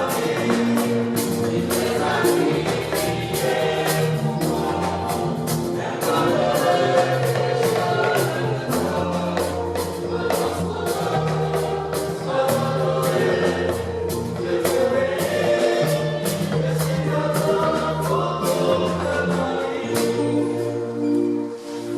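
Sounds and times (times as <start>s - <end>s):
gospel choir singing: 0.0s - 21.9s.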